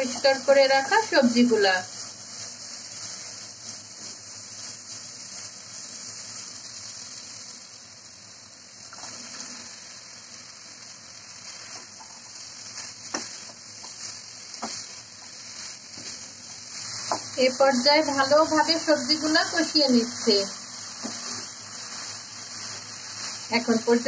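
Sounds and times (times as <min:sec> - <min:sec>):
wooden spatula stirring pan: 0:00.0 - 0:06.6, 0:08.9 - 0:09.8, 0:11.2 - 0:24.0
oil sizzling in a wok: 0:00.0 - 0:24.0.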